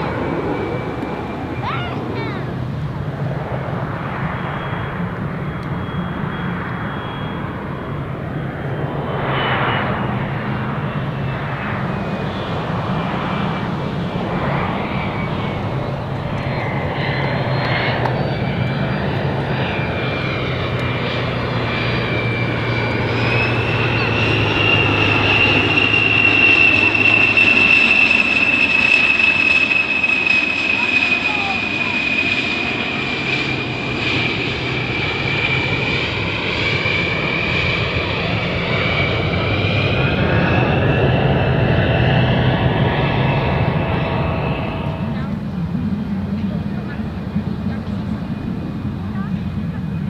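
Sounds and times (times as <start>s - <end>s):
jet engines whining: 0.0s - 50.0s.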